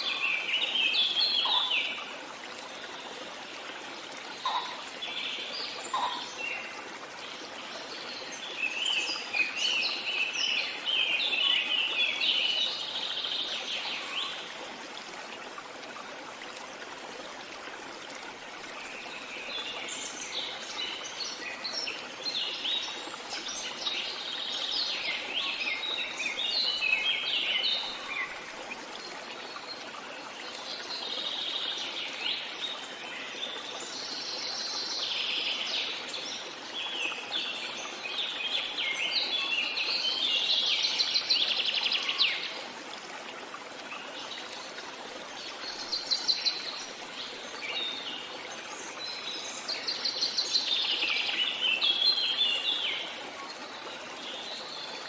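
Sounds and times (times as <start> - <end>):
running stream: 0.0 - 55.0.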